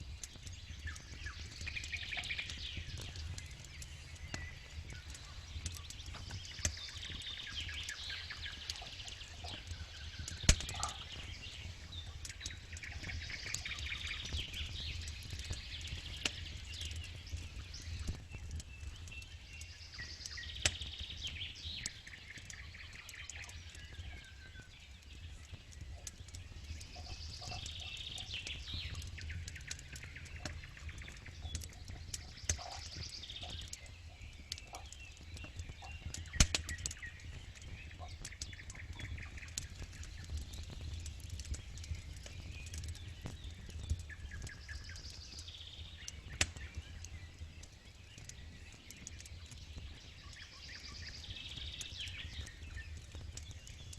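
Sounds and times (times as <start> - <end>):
bird singing: 0.0 - 53.9
campfire crackling and popping: 0.0 - 53.9.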